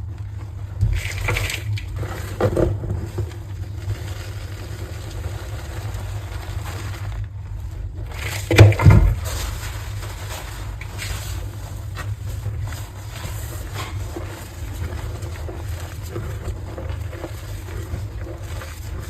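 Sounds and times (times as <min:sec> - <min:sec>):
faint crackles: 0:00.0 - 0:19.0.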